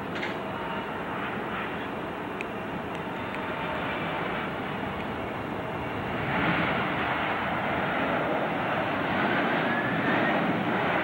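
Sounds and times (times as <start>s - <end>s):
jet engines roaring on runway: 0.0s - 11.0s.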